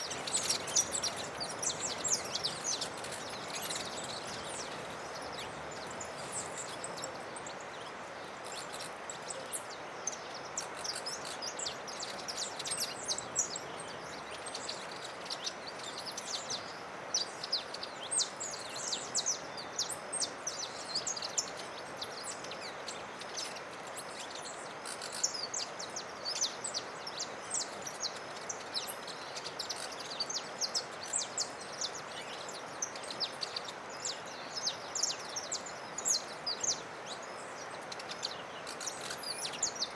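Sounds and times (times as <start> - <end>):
background hiss: 0.0 - 39.9
birds chirping: 0.0 - 39.9.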